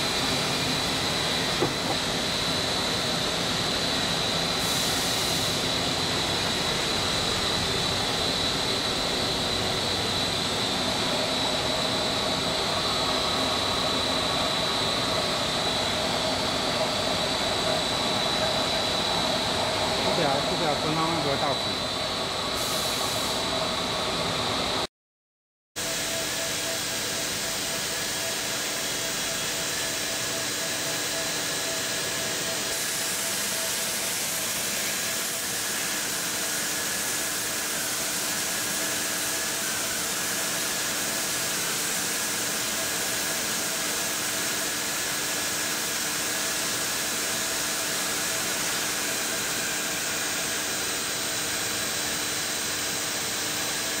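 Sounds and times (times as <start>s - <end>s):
extrusion machinery hiss: 0.0s - 21.8s, 22.4s - 23.6s, 25.8s - 54.0s.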